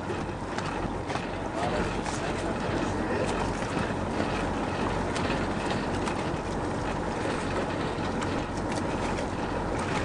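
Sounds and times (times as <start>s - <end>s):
boat engine running: 0.0s - 10.0s
water noise: 0.0s - 10.0s
wind: 0.0s - 10.0s.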